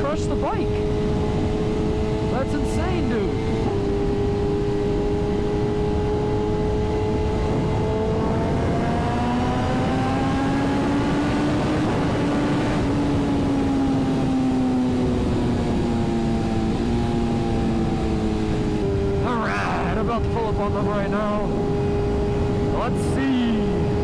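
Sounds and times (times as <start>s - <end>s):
motorcycle engine cruising: 0.0s - 24.0s
wind rushing on microphone: 0.0s - 24.0s.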